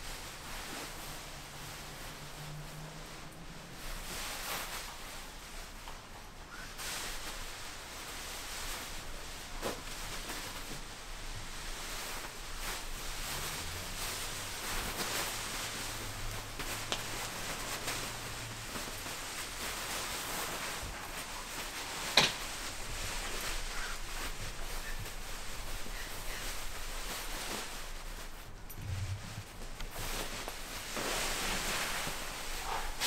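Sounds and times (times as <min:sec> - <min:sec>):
puppies scuffling on blanket: 0:00.0 - 0:33.0.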